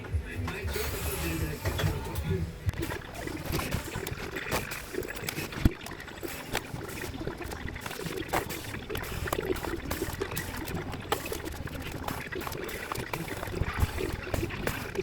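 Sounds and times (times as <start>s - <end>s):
hands clicking and tapping tools: 2.8s - 15.0s.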